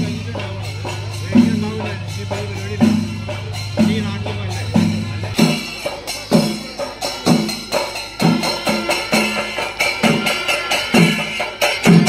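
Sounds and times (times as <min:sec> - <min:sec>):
drums beating: 0:00.0 - 0:12.0
metallic cymbal clashes: 0:00.0 - 0:12.0.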